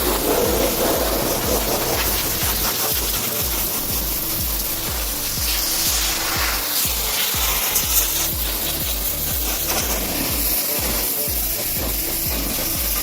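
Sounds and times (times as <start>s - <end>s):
background music with bass beat: 0.0s - 13.0s
brush scrubbing a truck: 0.0s - 13.0s.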